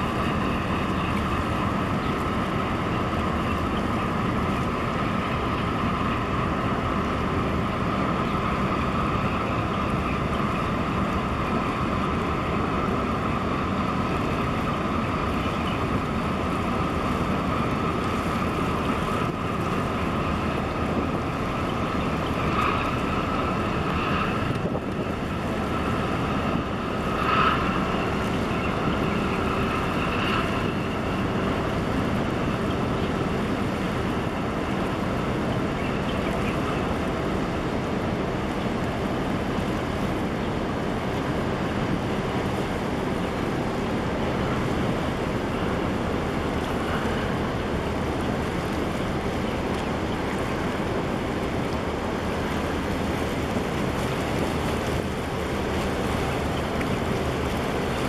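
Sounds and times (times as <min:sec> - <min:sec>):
higher engine whine: 0:00.0 - 0:58.0
ship engines droning: 0:00.0 - 0:58.0
wind noise on microphone: 0:00.0 - 0:58.0.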